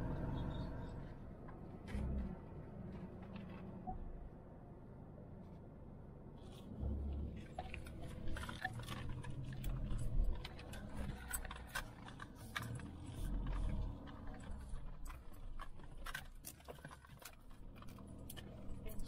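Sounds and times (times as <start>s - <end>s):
car rumbling over gravel: 0.0s - 3.8s, 6.4s - 19.0s.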